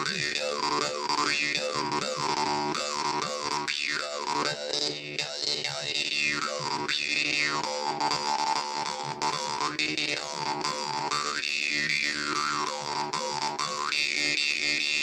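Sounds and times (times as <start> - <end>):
jaw harp drone: 0.0 - 15.0.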